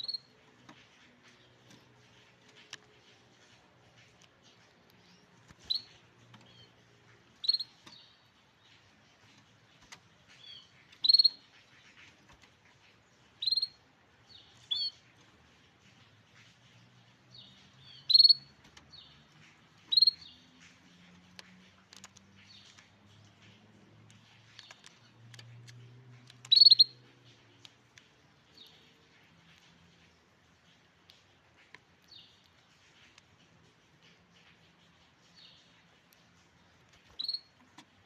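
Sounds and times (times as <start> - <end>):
canary chirping: 0.0 - 38.0.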